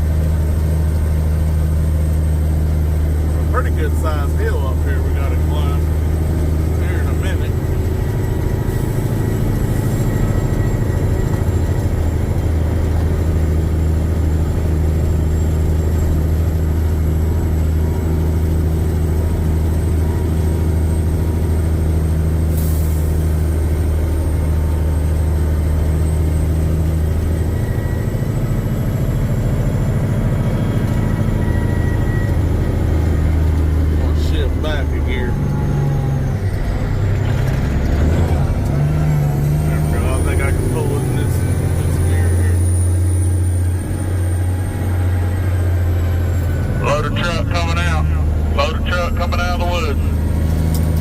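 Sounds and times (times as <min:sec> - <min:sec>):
diesel truck engine droning: 0:00.0 - 0:51.0.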